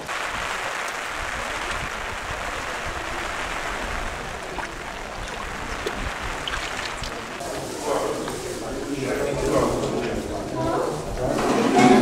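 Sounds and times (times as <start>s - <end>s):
rain falling on a lake: 0.0s - 11.0s.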